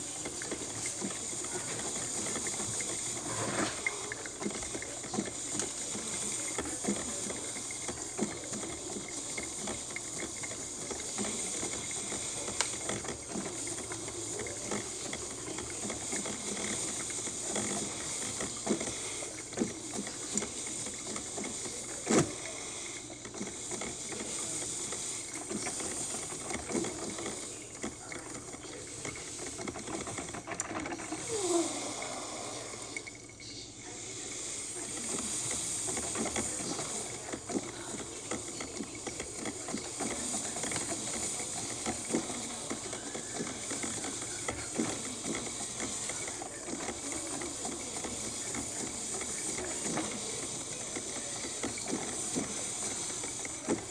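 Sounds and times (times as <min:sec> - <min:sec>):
coffee maker gurgling: 0:00.0 - 0:53.9
coffee maker hissing steam: 0:00.0 - 0:53.9.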